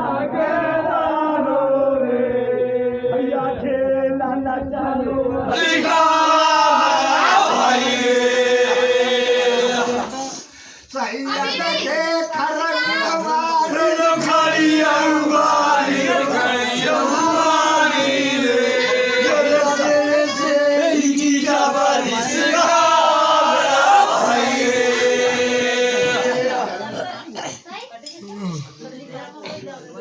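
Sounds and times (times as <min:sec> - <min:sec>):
voices chanting devotional song: 0:00.0 - 0:27.6.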